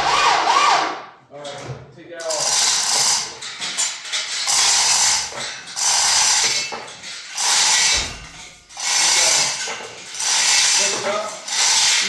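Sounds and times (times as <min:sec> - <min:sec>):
hand ratchet clicking: 0:02.2 - 0:12.0.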